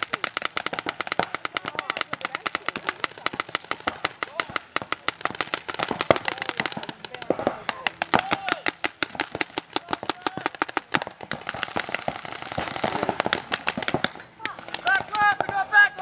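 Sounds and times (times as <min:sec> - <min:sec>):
paintball markers firing: 0:00.0 - 0:16.0.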